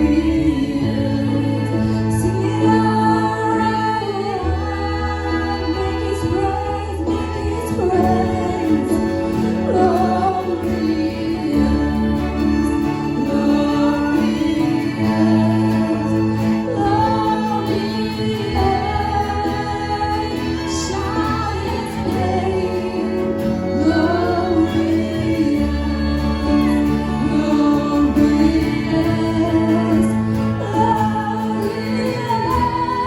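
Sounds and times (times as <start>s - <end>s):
instrumental chords and bass: 0.0s - 33.0s
voices singing worship song: 0.0s - 33.0s.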